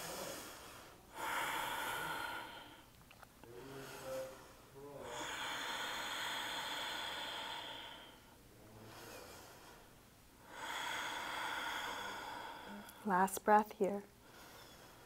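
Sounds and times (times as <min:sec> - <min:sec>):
person breathing: 0:00.0 - 0:02.9, 0:03.5 - 0:13.1, 0:14.2 - 0:15.0.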